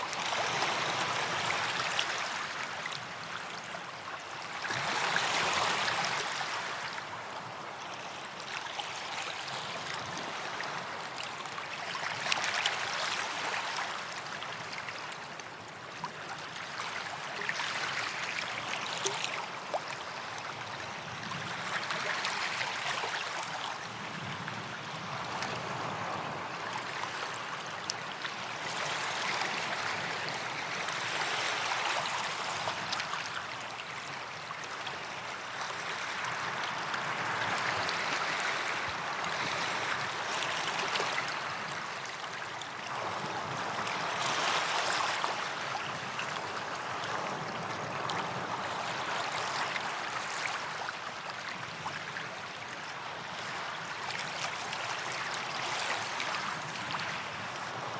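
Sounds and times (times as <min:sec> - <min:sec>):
small waves washing on sand: 0:00.0 - 0:57.9.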